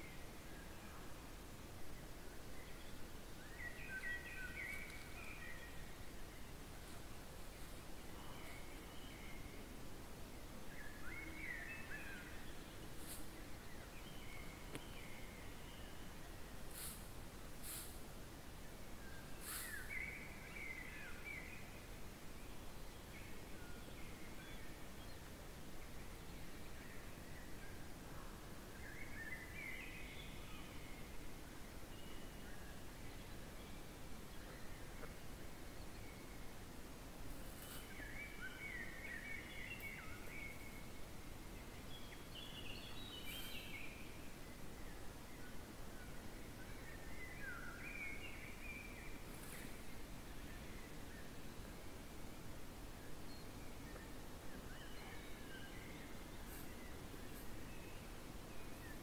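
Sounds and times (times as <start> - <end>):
background hiss: 0.0 - 59.0
songbird singing: 0.0 - 59.0.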